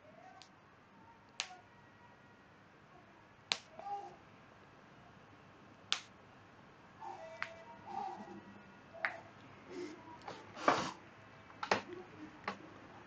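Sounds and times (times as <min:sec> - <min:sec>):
faint room noise: 0:00.0 - 0:13.0.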